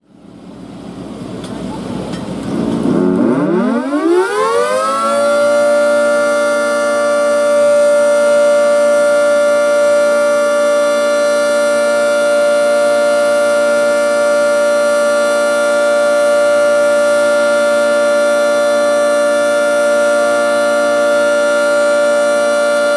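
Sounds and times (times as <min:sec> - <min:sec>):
tornado siren: 0:02.8 - 0:22.9.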